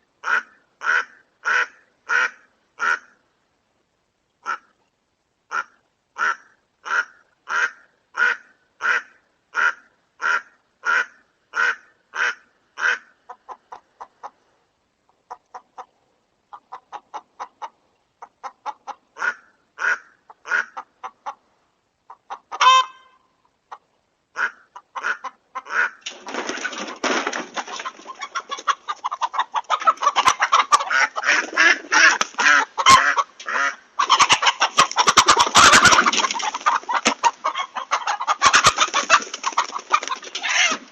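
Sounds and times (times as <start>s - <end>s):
chickens cackling: 0.0s - 3.2s, 5.5s - 14.5s, 15.1s - 40.9s
chickens squawking alarm calls: 0.0s - 3.2s, 5.5s - 14.4s, 15.2s - 40.9s.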